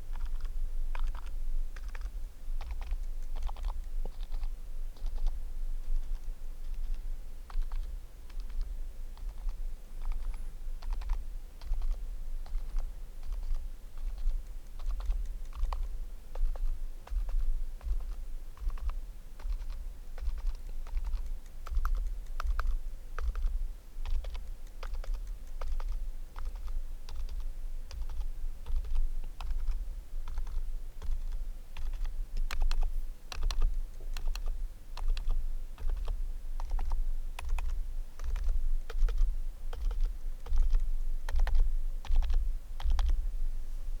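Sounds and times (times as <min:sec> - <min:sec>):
typing on a keyboard: 0:00.1 - 0:43.2.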